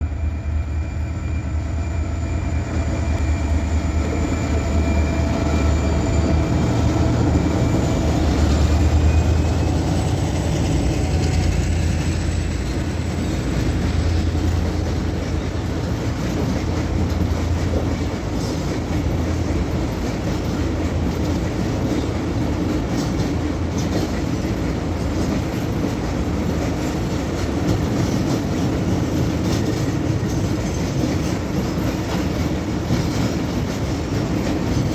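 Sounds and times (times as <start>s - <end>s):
diesel locomotives rumbling: 0.0s - 34.9s
locomotive whine: 0.0s - 34.9s.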